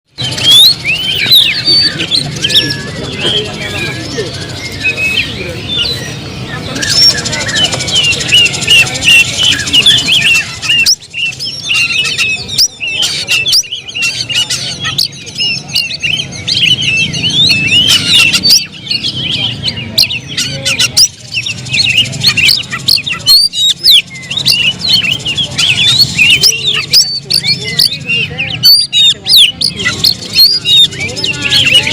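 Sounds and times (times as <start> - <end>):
bird singing varied chirps and whistles: 0.1 - 31.9.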